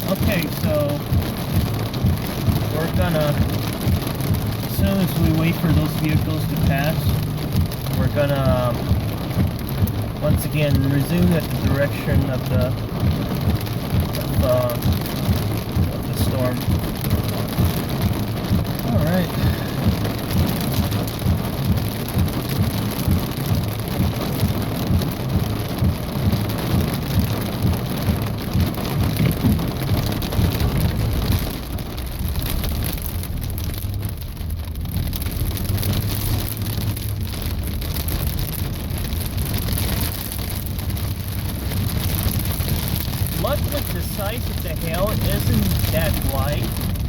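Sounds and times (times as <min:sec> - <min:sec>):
hail and rain on vehicle roof: 0:00.0 - 0:47.0.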